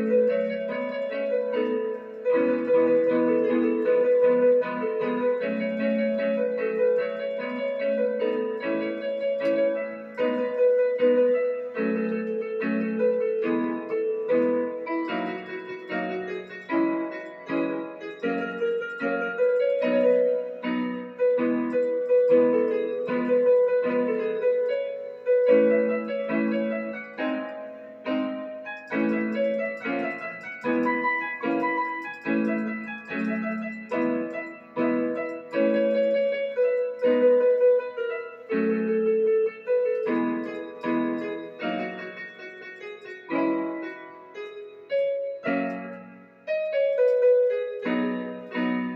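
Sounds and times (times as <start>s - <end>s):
electronic keyboard playing: 0.0s - 48.9s.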